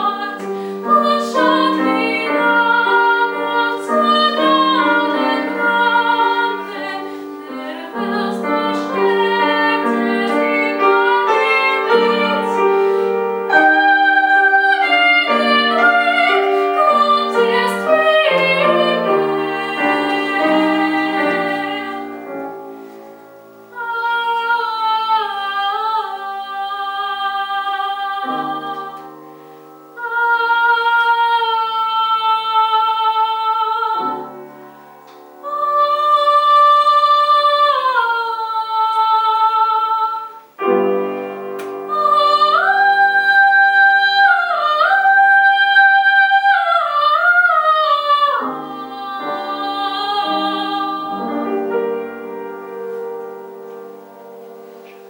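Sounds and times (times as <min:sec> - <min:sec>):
piano chords: 0:00.0 - 0:55.0
woman singing classical style: 0:00.0 - 0:55.0.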